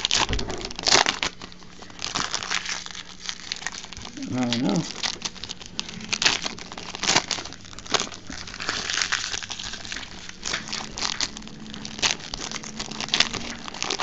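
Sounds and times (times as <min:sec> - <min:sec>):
foil wrappers crinkling: 0:00.0 - 0:14.0.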